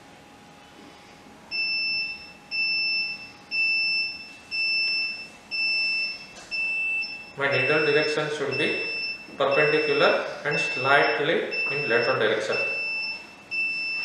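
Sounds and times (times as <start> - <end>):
high electronic beeps: 1.6 - 14.0.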